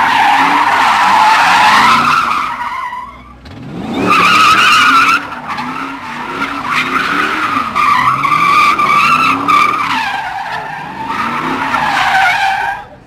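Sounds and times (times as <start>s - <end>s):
car engine revving: 0.0s - 13.0s
loud tire squeal: 0.0s - 13.0s.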